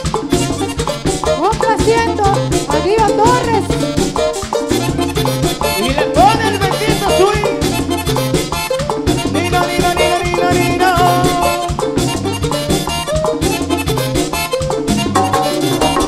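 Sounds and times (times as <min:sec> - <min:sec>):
accordion melody: 0:00.0 - 0:16.0
drum and bass beat: 0:00.0 - 0:16.0.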